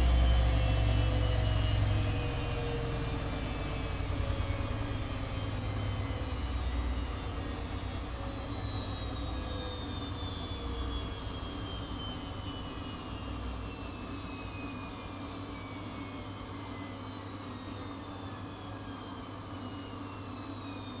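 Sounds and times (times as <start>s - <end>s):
washing machine motor whine: 0.0s - 18.1s.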